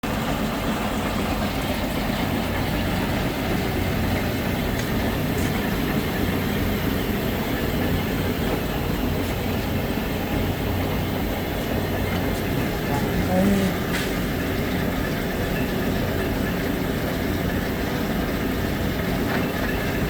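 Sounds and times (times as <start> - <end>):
lathe motor humming: 0.6 - 20.0.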